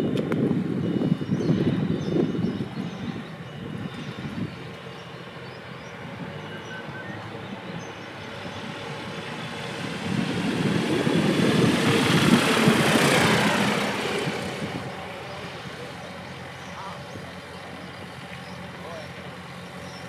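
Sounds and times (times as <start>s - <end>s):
propeller aircraft passing overhead: 0.0s - 20.0s.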